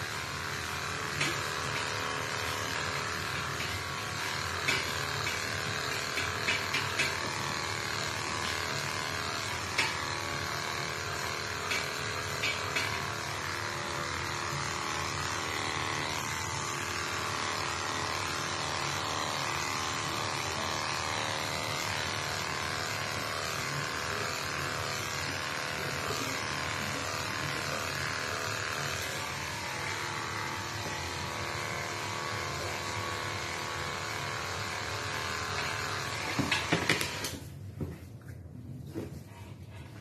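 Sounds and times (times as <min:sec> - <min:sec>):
electric hair clippers running: 0:00.0 - 0:37.6.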